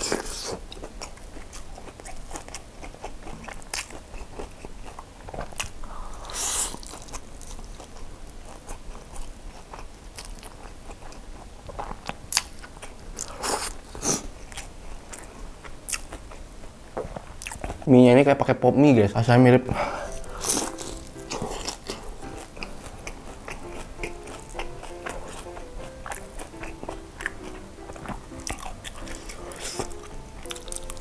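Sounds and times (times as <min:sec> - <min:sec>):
crunchy chewing: 0:00.0 - 0:17.9, 0:19.8 - 0:31.0.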